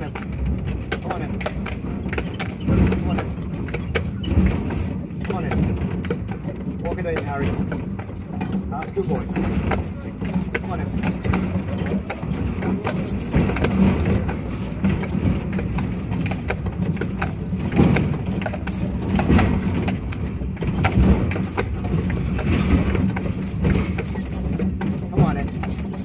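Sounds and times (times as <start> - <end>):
horse hooves clip-clopping: 0.0 - 26.0
tramcar rumbling on rails: 0.0 - 26.0
wheels clicking and knocking: 0.0 - 26.0.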